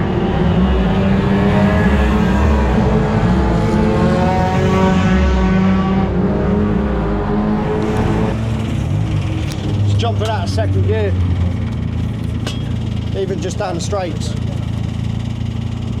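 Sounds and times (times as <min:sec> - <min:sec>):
race car engine running hard: 0:00.0 - 0:16.0.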